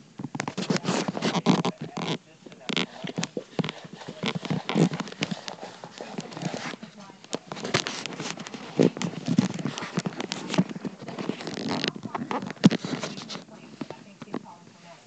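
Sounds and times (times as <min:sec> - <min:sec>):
fingers rubbing microphone: 0:00.0 - 0:15.0
phone being handled: 0:00.0 - 0:15.0.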